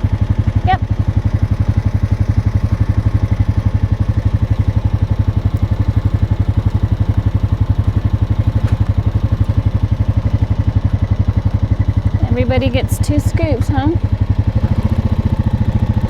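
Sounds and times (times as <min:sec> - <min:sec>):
small engine idling: 0:00.0 - 0:16.0.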